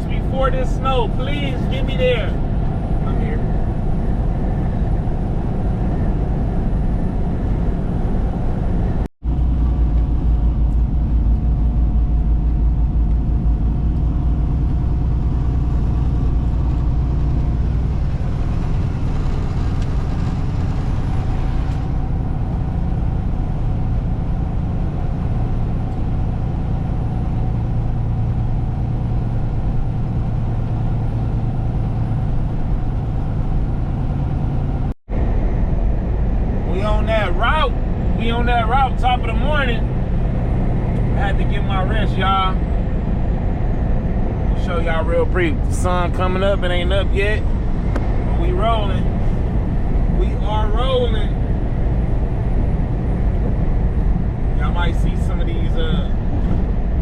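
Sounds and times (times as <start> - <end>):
low hum: 0.0 - 57.0
truck engine and road noise: 0.0 - 57.0.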